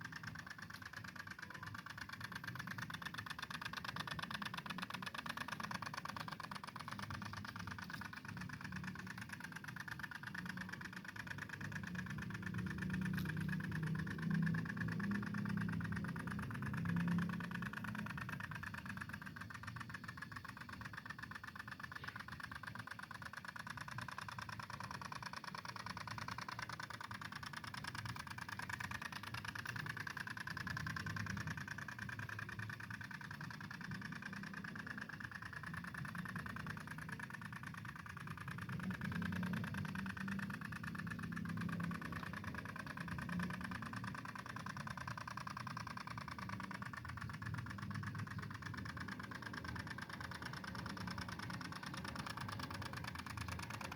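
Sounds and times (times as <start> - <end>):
tiller engine running: 0.0 - 53.9.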